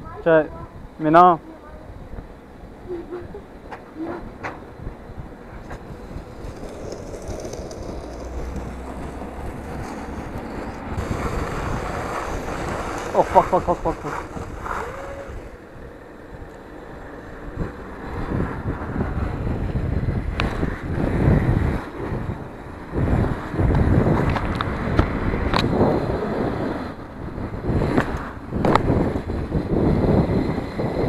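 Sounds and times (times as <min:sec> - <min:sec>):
wind buffeting microphone: 0:00.0 - 0:31.0
bike tyres rumbling on pavement: 0:03.6 - 0:31.0.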